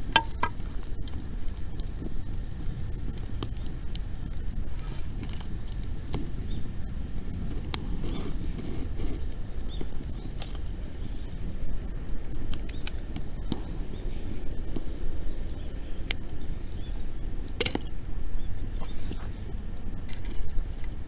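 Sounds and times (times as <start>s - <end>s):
dry wood fire crackling: 0.0s - 21.0s
low rumble: 0.0s - 21.0s
sharp fire pops: 0.0s - 21.0s.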